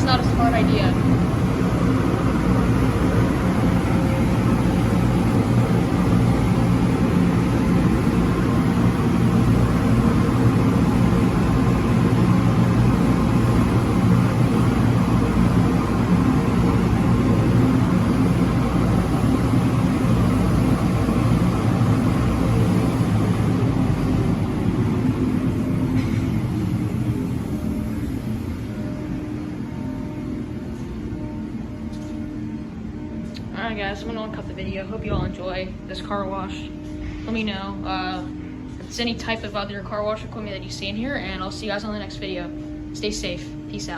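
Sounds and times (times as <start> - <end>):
car wash machinery drone: 0.0 - 43.9.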